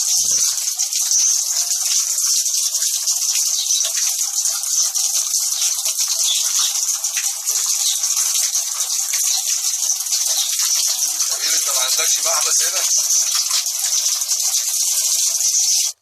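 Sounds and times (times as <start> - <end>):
water spraying from valve: 0.0 - 16.0.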